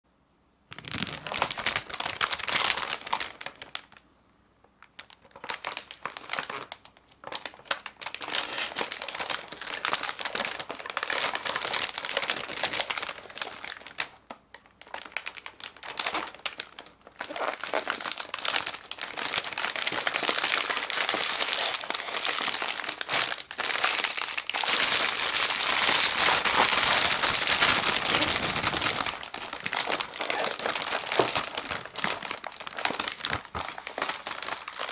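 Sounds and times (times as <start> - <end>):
plastic bag crinkling: 0.7 - 4.0, 4.8 - 34.9.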